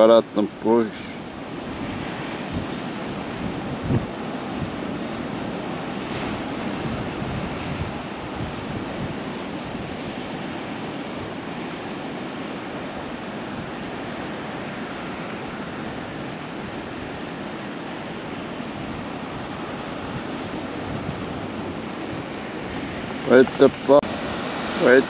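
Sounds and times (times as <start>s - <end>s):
surf washing against rocks: 0.0s - 25.0s
wind buffeting microphone: 0.9s - 25.0s.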